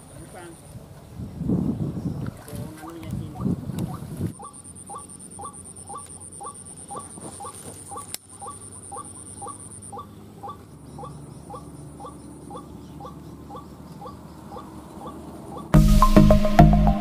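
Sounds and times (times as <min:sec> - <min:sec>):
waterhen calling: 0:02.0 - 0:17.0.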